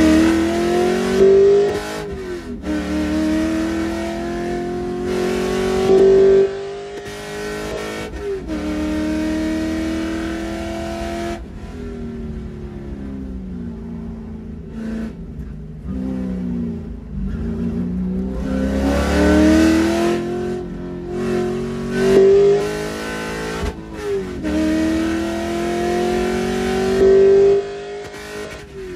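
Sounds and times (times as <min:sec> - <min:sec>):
race car engine accelerating: 0:00.0 - 0:13.0, 0:13.7 - 0:28.9.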